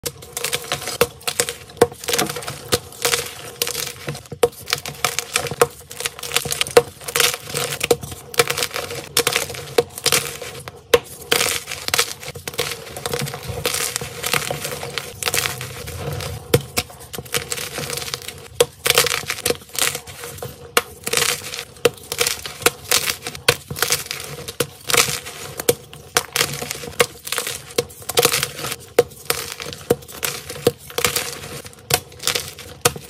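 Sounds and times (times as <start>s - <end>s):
chalk crunching and crumbling: 0.0s - 33.0s
chalk blocks cracking: 0.1s - 33.0s.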